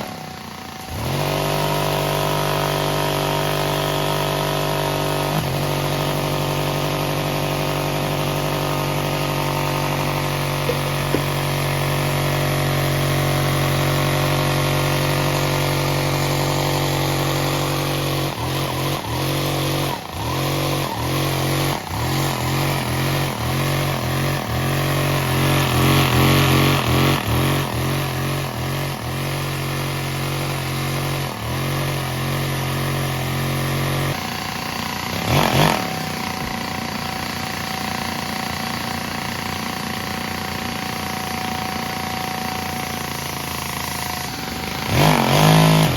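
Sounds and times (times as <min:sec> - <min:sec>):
toy truck motor humming: 0:05.1 - 0:45.9.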